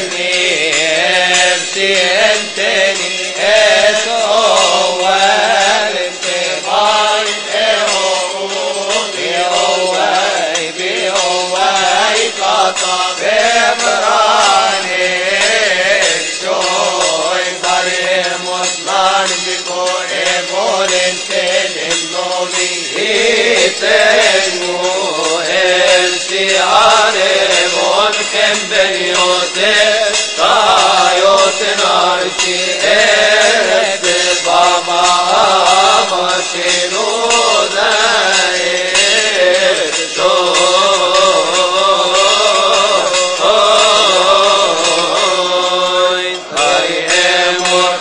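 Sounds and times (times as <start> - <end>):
male choir chanting a hymn: 0.0 - 48.0.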